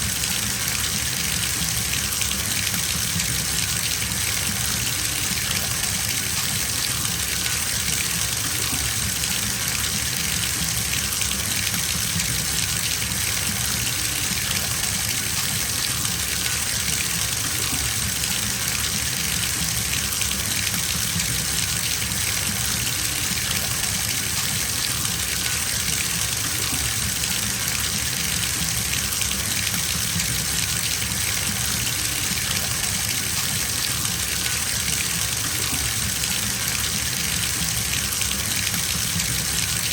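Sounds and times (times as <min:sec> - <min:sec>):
tap water gushing into bathtub: 0:00.0 - 0:39.9.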